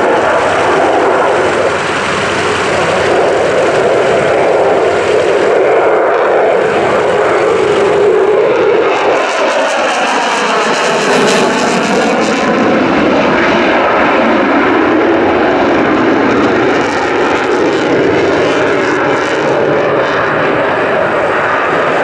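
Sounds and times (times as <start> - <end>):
fighter jet roar: 0.0 - 22.0.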